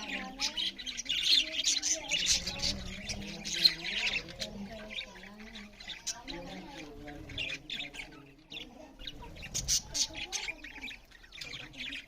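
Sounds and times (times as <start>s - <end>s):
budgerigars chattering and squawking: 0.0s - 12.0s.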